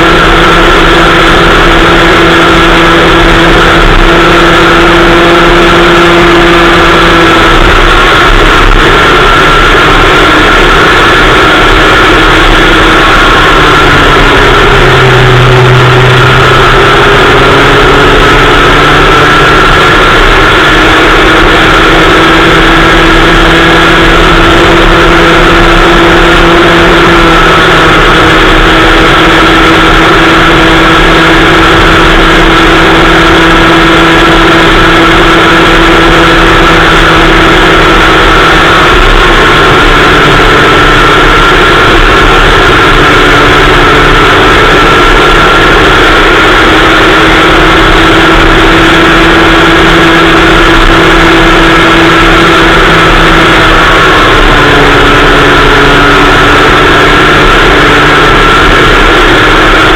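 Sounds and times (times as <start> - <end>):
small two-stroke kart engine: 0.0 - 59.9.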